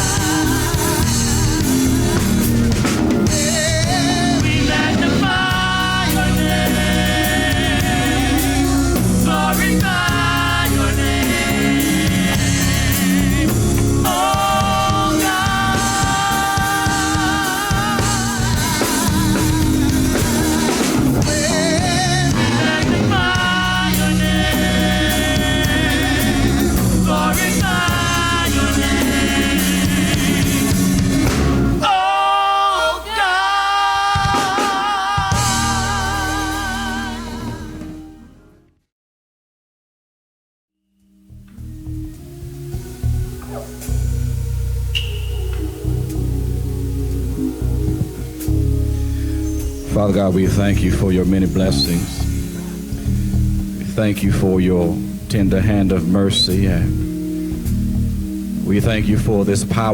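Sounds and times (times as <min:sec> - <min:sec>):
band playing gospel music: 0:00.0 - 0:38.6, 0:41.5 - 0:59.9.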